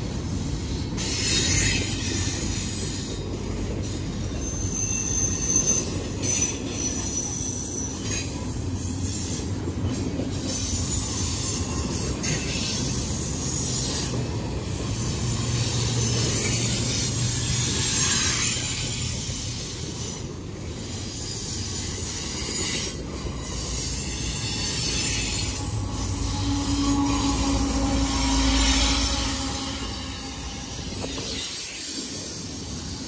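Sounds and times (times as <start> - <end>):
diesel locomotive rumble: 0.0 - 33.0
high wheel squeal: 0.7 - 33.0.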